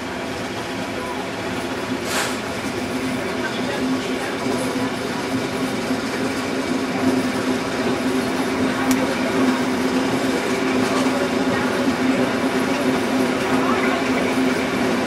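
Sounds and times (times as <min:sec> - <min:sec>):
diesel locomotive drone: 0:00.0 - 0:15.0
wheel-on-rail noise: 0:00.0 - 0:15.0
wind: 0:00.0 - 0:15.0.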